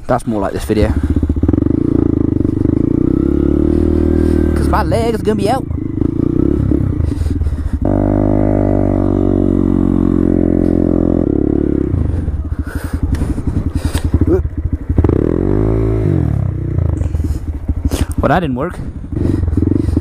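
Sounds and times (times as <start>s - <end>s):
small motorcycle engine revving: 0.5s - 18.4s, 19.0s - 20.0s.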